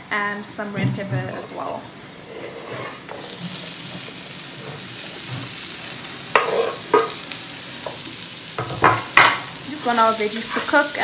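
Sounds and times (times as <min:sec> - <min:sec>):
vegetables sizzling in a pan: 0:01.7 - 0:11.0.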